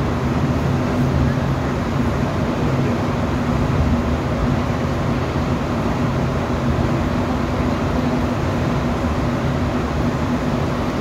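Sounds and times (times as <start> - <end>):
metro train running through tunnel: 0.0 - 11.0.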